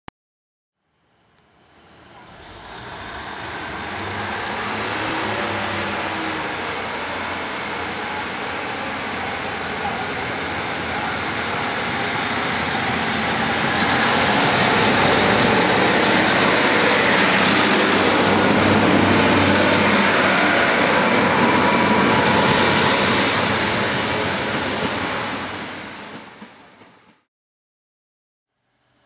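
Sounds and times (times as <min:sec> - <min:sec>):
diesel train engines running: 0:02.2 - 0:26.7
train wheels on rails: 0:02.2 - 0:27.3.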